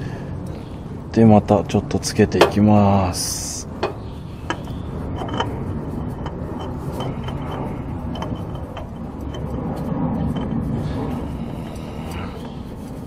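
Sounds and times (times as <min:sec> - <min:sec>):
vehicle low rumble: 0:00.0 - 0:13.0.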